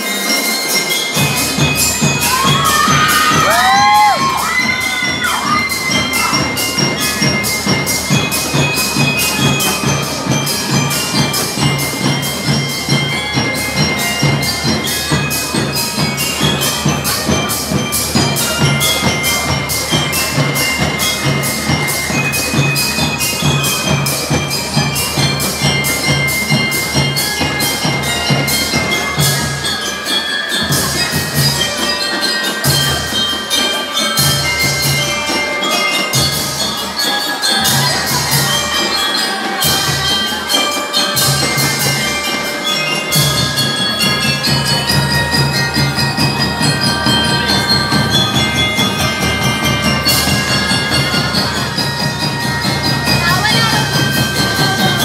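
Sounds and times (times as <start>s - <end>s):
bell lyres playing melody: 0.0s - 55.0s
marching drums: 0.1s - 55.0s.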